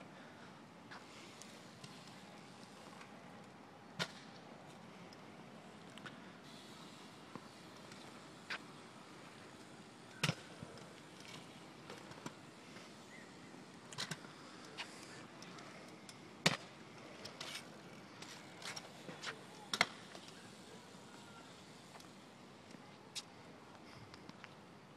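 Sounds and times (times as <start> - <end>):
scooter wheels rolling on concrete: 0.9 - 24.8.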